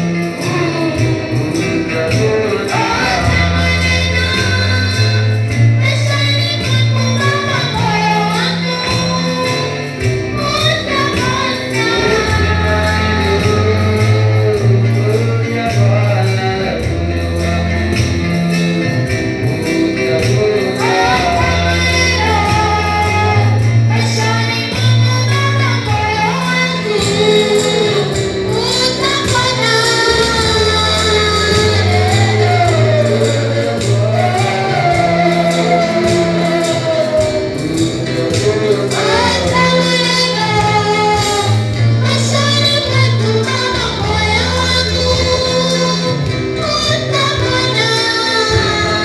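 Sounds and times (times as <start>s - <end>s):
gospel song on electronic keyboard: 0.0s - 49.0s
person singing: 0.0s - 49.0s.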